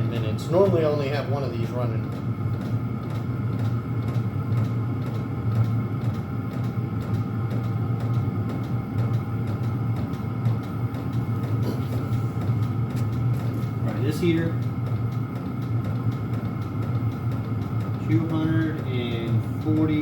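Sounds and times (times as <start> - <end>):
air heaters humming: 0.0 - 20.0.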